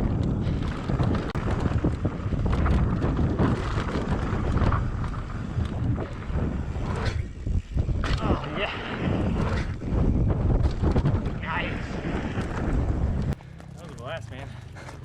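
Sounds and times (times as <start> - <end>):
wind buffeting microphone: 0.0 - 13.4
bike knocks and rattles: 0.0 - 13.7
bike tyre rumble: 0.0 - 15.0.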